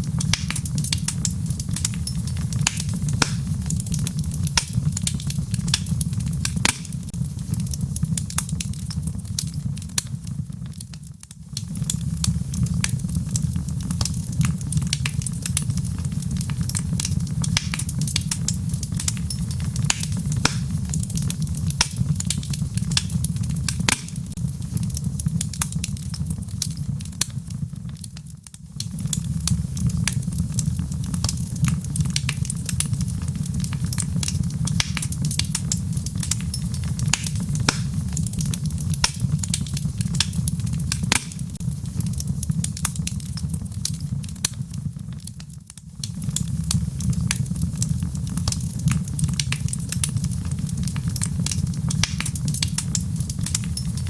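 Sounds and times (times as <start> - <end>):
flames rumbling: 0.0 - 54.0
wood crackling and popping: 0.0 - 54.0.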